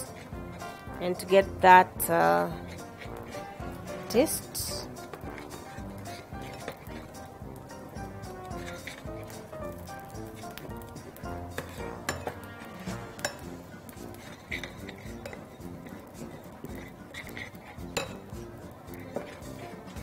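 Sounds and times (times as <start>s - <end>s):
background music: 0.0s - 20.0s
metal spoon scraping a saucepan: 0.0s - 20.0s.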